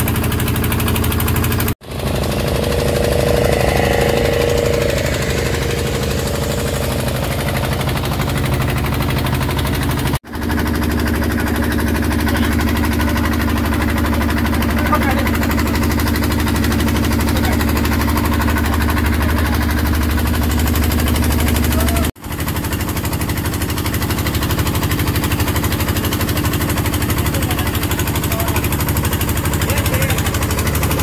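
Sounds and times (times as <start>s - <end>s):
motorboat engine running: 0.0s - 31.0s.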